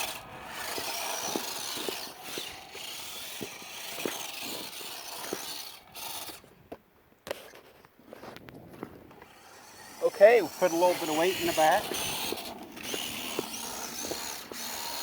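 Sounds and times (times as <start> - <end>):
electric motor whining: 0.0 - 6.4, 9.1 - 15.0.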